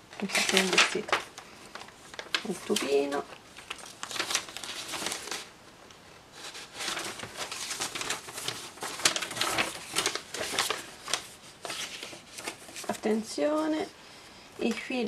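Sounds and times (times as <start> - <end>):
paper rustling and crinkling: 0.1 - 5.5, 6.3 - 13.7.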